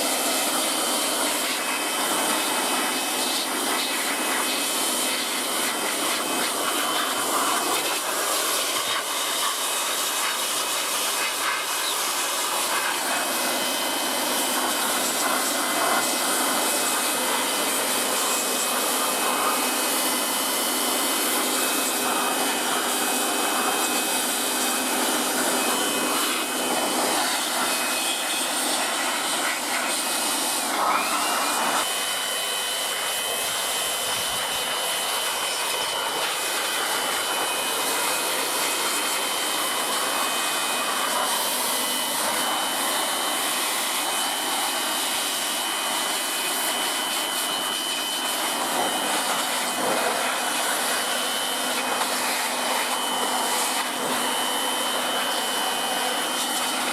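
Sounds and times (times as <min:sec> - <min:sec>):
high motor whine: 0:00.0 - 0:56.9
pressure washer spray hissing: 0:00.0 - 0:56.9.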